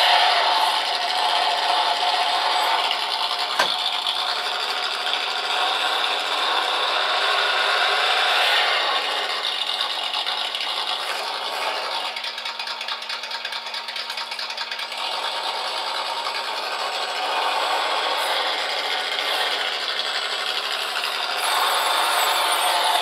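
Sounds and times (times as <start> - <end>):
simulated engine sound: 0.0 - 23.0
toy car motor rattling: 0.0 - 23.0.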